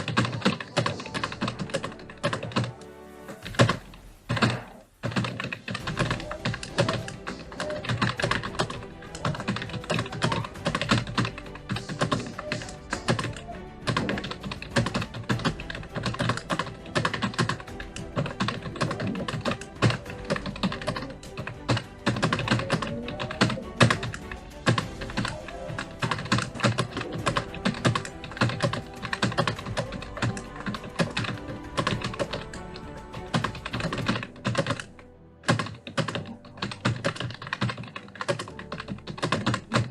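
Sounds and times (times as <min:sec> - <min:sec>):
background music: 0:00.0 - 0:39.9
computer keyboard typing: 0:00.0 - 0:39.9.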